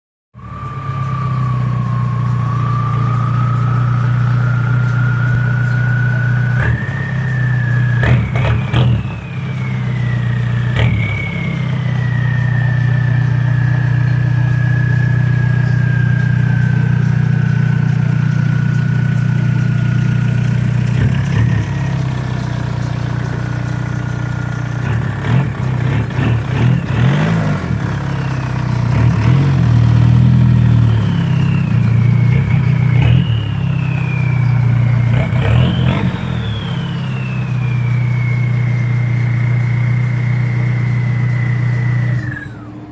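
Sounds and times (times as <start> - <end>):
diesel engine idling and revving: 0.4 - 42.9
turbo whistle: 0.4 - 42.9.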